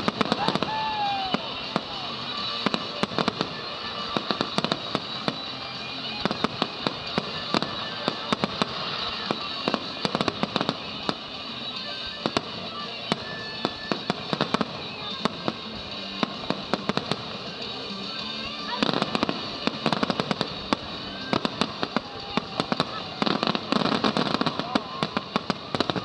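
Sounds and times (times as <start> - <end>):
background music: 0.0 - 26.0
fireworks bangs and pops: 0.0 - 26.0.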